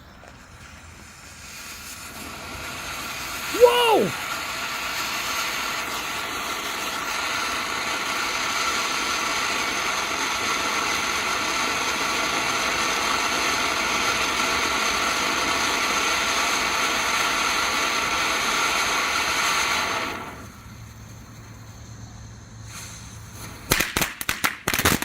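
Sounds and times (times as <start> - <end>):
fountain firework spraying sparks: 0.0 - 25.0.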